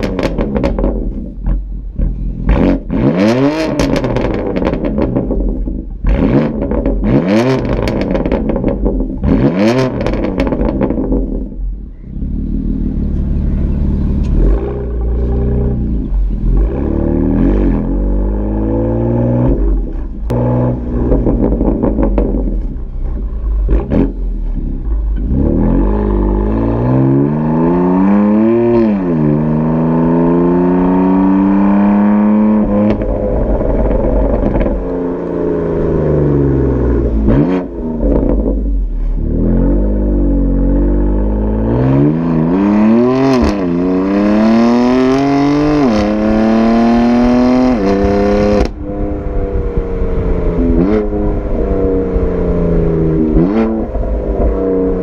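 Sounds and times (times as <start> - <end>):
car engine revving loudly: 0.0 - 11.5, 12.2 - 55.0.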